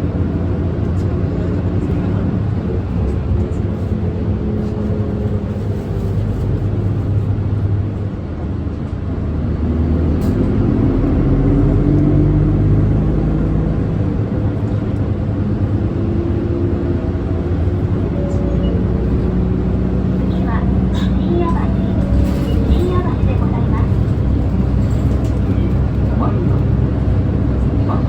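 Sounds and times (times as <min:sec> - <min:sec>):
bus diesel engine from inside: 0:00.0 - 0:28.0.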